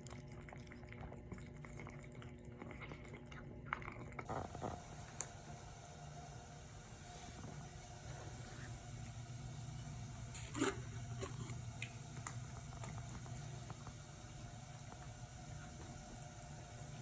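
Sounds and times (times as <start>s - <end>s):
cats chewing food: 0.0s - 5.4s, 8.3s - 17.0s
low steady hum: 0.0s - 17.0s.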